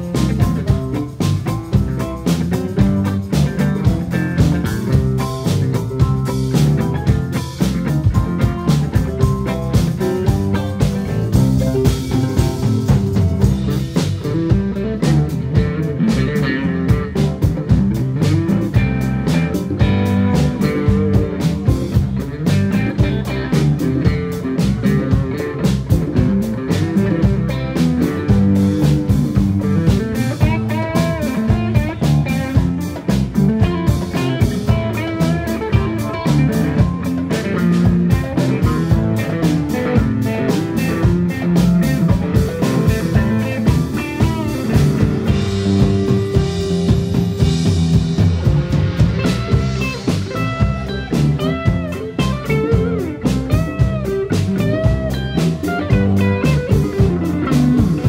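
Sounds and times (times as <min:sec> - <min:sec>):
bass: 0:00.0 - 0:58.0
drum kit beat: 0:00.0 - 0:58.0
electric guitar lines: 0:00.0 - 0:58.0.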